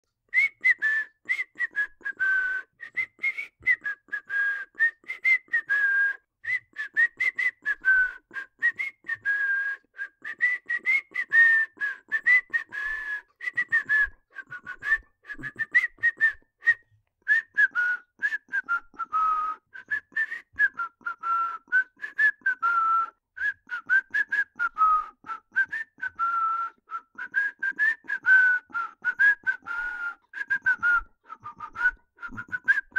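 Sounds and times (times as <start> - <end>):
person whistling a melody: 0.3 - 32.9.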